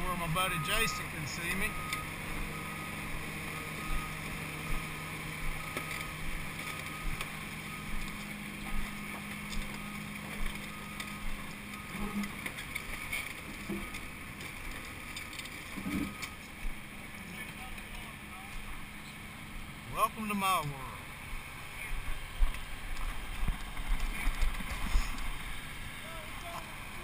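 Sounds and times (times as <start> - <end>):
excavator engine hum: 0.0 - 27.0.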